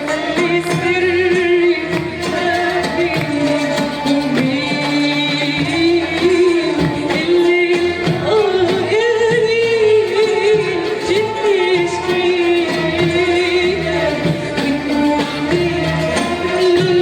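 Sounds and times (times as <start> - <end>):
music ensemble accompanying: 0.0 - 17.0
woman singing: 0.0 - 17.0.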